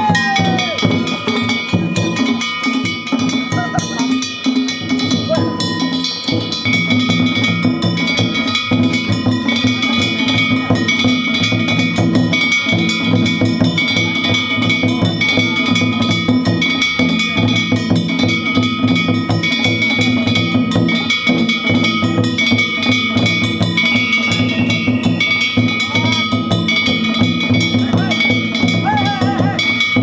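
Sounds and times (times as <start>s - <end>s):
small gongs clanging: 0.0s - 30.0s
taiko drums beating fast: 0.0s - 30.0s.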